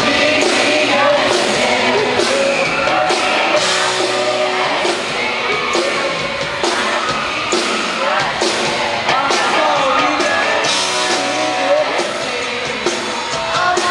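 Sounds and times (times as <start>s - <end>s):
lead singer singing: 0.0s - 13.9s
live pop-rock band playing: 0.0s - 13.9s.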